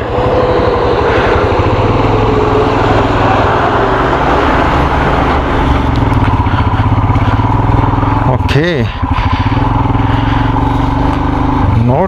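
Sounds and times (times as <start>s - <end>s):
motorcycle engine at low revs: 0.0s - 12.0s
truck engine passing: 0.0s - 12.0s.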